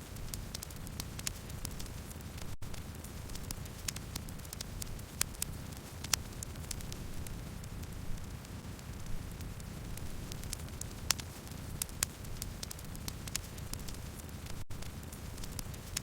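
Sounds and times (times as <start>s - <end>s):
burning wood crackling: 0.0s - 16.0s
campfire flame rumble: 0.1s - 16.0s.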